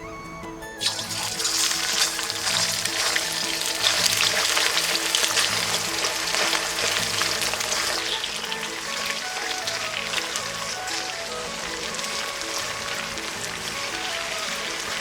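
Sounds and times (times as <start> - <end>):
background music: 0.0 - 15.0
food sizzling in hot oil: 0.8 - 15.0.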